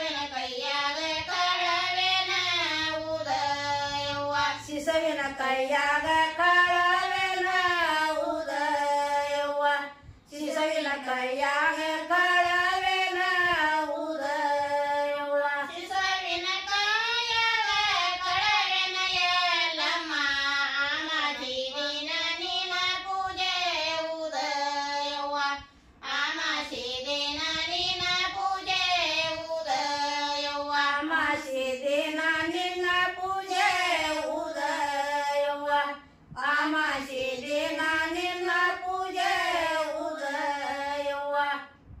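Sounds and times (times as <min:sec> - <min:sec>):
women singing together: 0:00.0 - 0:41.8.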